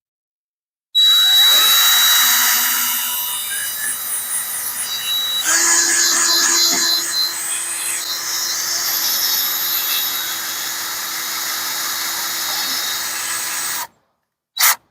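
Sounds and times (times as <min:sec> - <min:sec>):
electric drill boring metal: 0:01.0 - 0:14.0.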